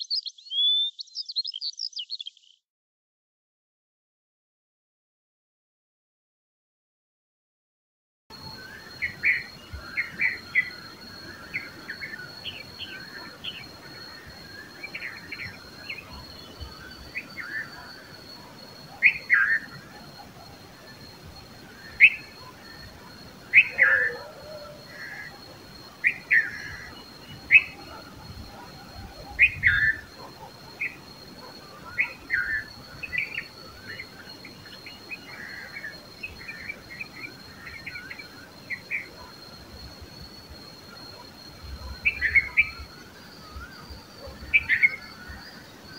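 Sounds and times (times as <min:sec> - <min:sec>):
bulbuls chirping: 0:08.4 - 0:45.9.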